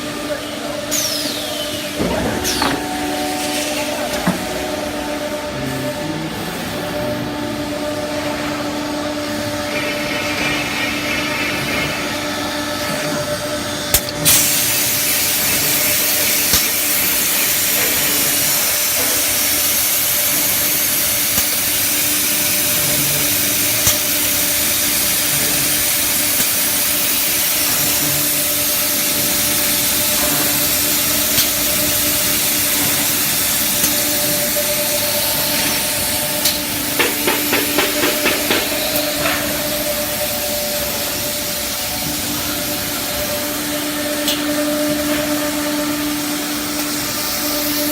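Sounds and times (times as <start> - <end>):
machine hum: 0.0 - 47.9.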